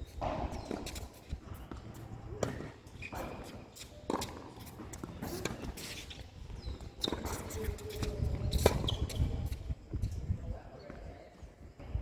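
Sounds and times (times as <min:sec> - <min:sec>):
footsteps on tennis court: 0:00.1 - 0:12.0.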